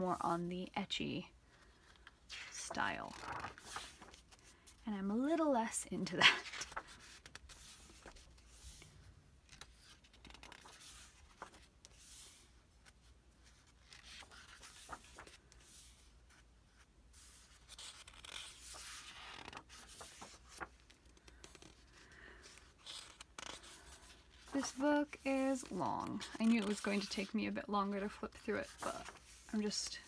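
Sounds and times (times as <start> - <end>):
book pages turning: 1.6 - 4.6, 6.3 - 30.0.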